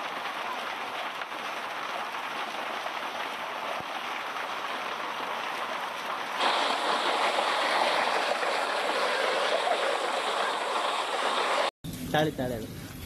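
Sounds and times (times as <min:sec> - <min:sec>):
hail and rain pelting down: 0:00.0 - 0:11.7.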